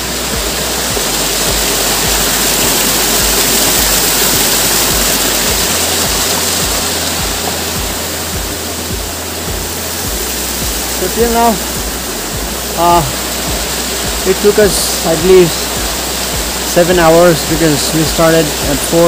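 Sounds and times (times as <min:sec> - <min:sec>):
background music with low beat: 0:00.0 - 0:19.0
small stream rushing: 0:00.0 - 0:19.0.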